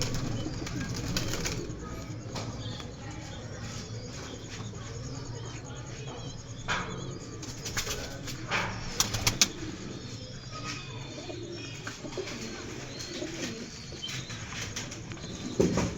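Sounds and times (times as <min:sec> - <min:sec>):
pigeons cooing: 0:00.0 - 0:15.9.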